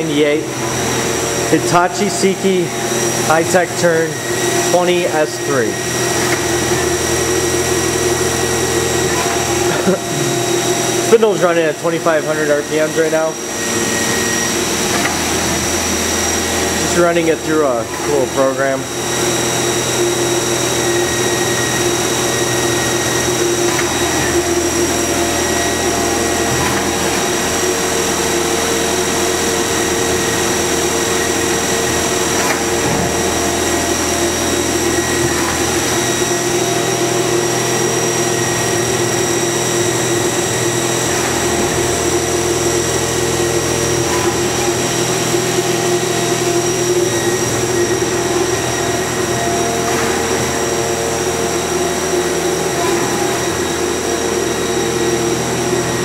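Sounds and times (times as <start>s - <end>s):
high machine whines: 0.0s - 56.0s
lathe spindle humming: 0.0s - 56.0s.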